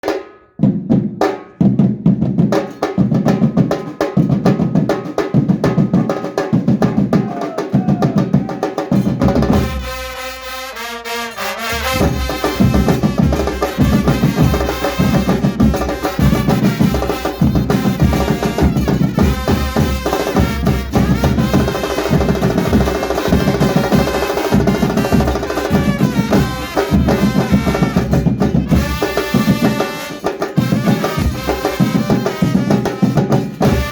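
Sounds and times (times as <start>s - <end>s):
percussion band drumming: 0.0s - 33.9s.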